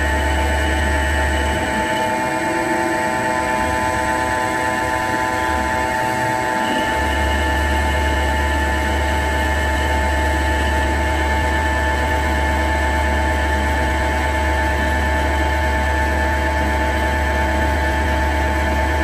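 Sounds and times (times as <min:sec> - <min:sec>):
deep hum: 0:00.0 - 0:19.0
lathe machine whine: 0:00.0 - 0:19.0.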